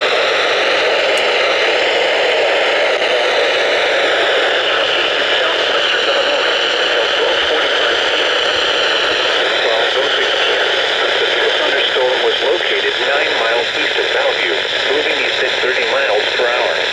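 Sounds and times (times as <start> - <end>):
radio static hiss: 0.0 - 16.9.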